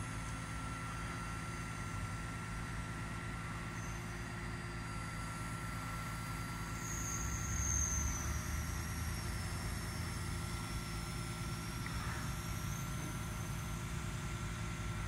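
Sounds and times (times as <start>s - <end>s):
high hydraulic whine: 0.0s - 15.0s.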